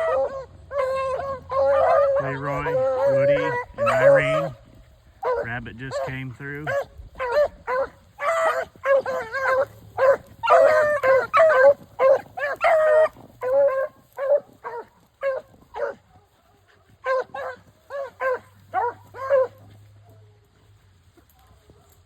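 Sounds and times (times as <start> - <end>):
beagles baying: 0.0 - 20.0.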